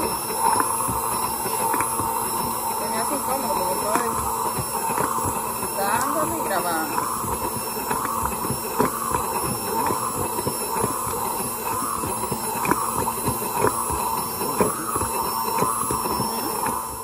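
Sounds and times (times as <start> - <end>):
immersion blender running in glass jar: 0.0 - 17.0.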